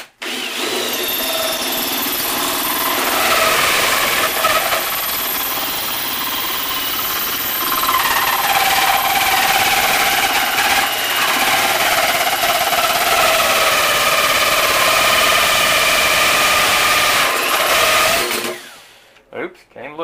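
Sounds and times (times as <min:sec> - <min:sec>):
cordless drill running: 0:00.2 - 0:19.0
hole saw grinding metal: 0:00.3 - 0:18.8.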